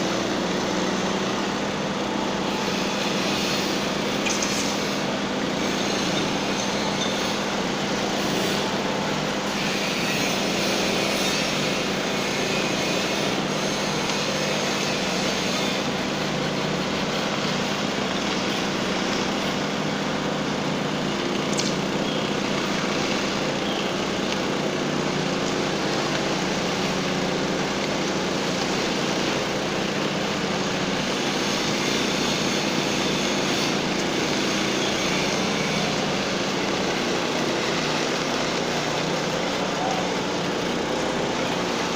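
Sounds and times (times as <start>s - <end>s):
power trowel petrol engine humming: 0.0s - 41.9s.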